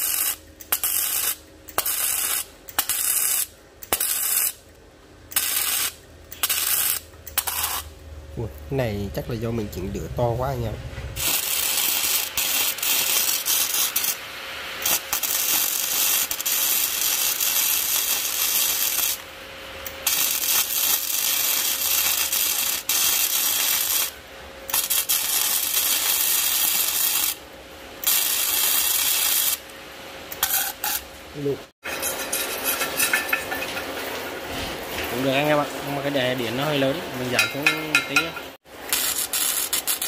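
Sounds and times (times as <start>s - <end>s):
welding arc crackling: 0.0s - 8.6s, 10.6s - 29.7s, 31.9s - 40.0s.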